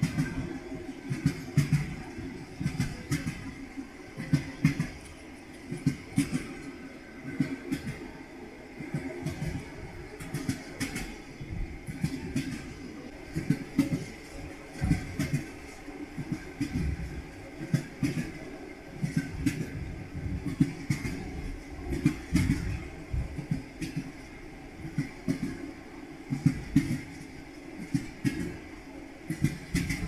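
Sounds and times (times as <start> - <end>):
train wheels clattering: 0.0 - 30.0.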